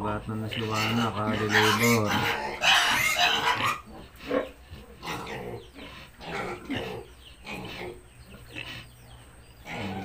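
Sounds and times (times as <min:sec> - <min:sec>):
pig grunting: 0:00.4 - 0:10.0.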